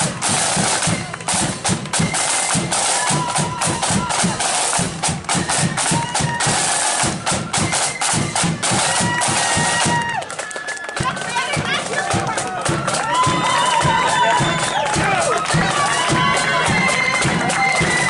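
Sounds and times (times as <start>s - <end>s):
flutes playing melody: 0.0s - 18.0s
rapid drumming: 0.0s - 18.0s.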